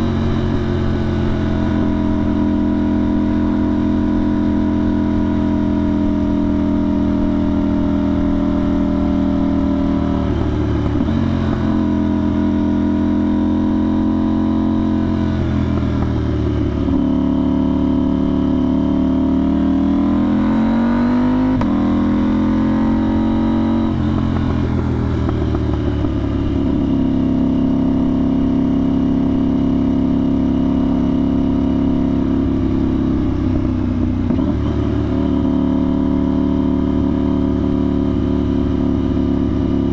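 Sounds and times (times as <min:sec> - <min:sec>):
loud motorcycle engine: 0:00.0 - 0:39.9.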